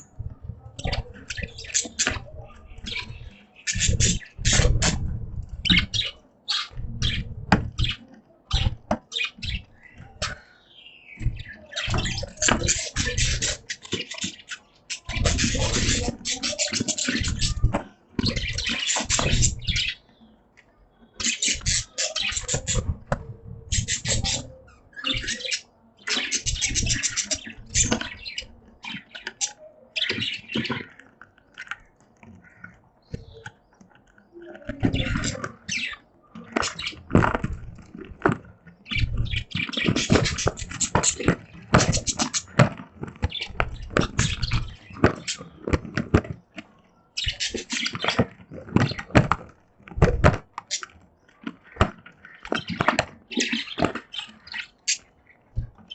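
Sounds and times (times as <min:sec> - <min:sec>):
budgies chirping and chattering: 0:00.0 - 0:55.9.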